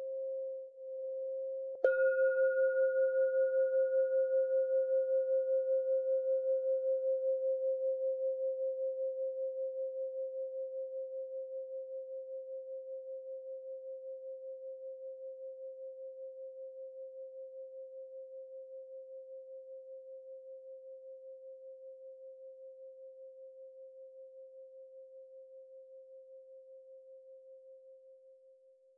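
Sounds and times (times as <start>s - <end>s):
pure ringing tone wavering: 0.0s - 28.4s.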